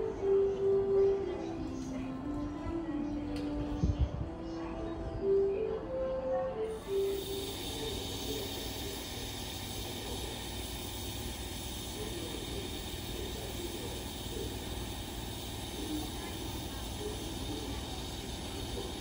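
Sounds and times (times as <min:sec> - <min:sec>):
hissing railway yard noise: 0:00.0 - 0:03.8, 0:04.4 - 0:19.0.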